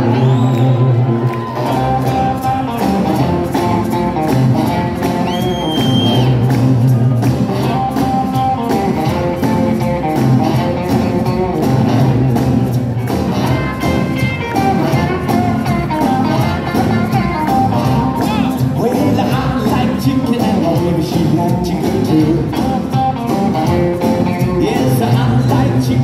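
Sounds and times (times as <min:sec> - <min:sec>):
drums: 0:00.0 - 0:26.0
electric guitar: 0:00.0 - 0:26.0
upright bass: 0:00.0 - 0:26.0.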